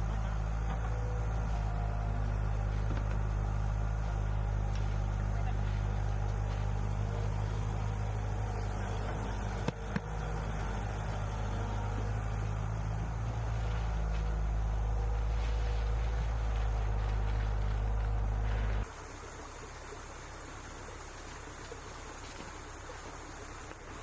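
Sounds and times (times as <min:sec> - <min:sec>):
machine engine running: 0:00.0 - 0:24.0.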